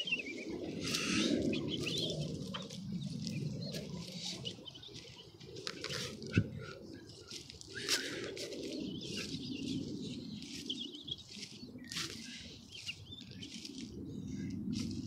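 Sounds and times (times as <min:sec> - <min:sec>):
rustling and flapping: 0:00.7 - 0:15.0.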